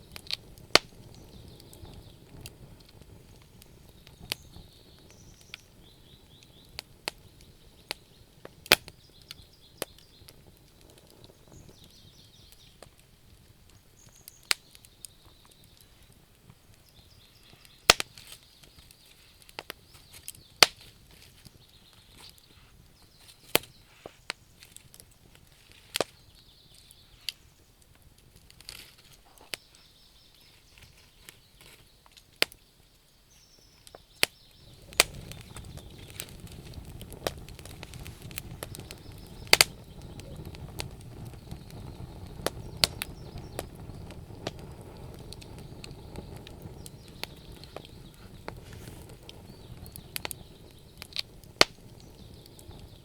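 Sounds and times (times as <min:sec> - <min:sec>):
bonfire crackling and popping: 0:00.0 - 0:53.0.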